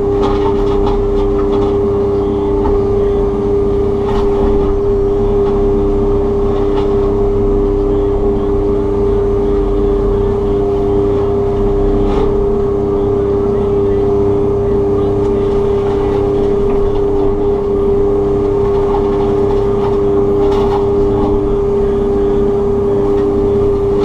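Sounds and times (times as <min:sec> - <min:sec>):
excavator mulcher drone: 0:00.0 - 0:24.0.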